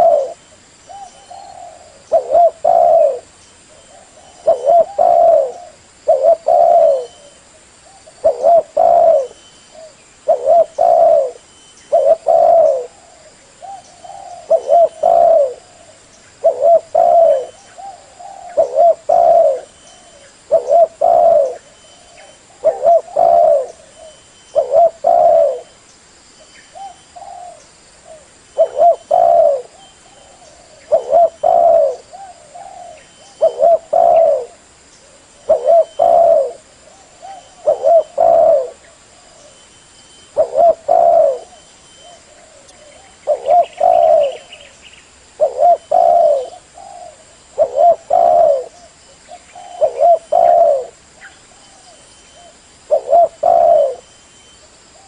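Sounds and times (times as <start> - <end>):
dove cooing: 0.0 - 25.8, 26.7 - 54.2.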